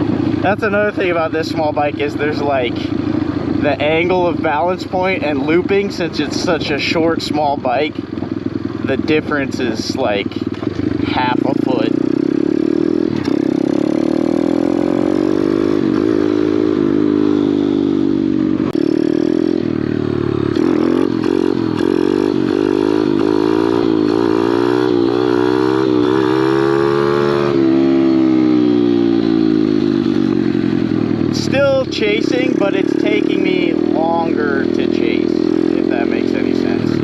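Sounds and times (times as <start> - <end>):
pit bike engine revving: 0.0 - 37.0.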